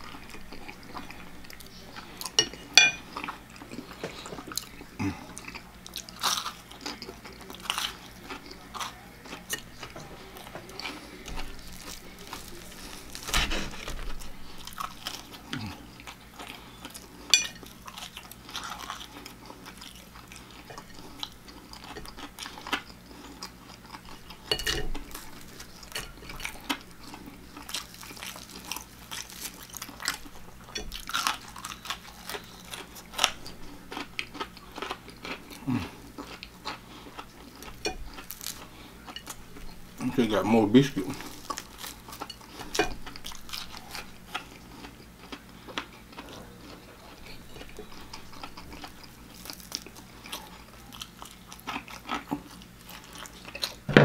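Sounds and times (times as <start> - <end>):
person chewing crispy food: 0.0 - 53.9.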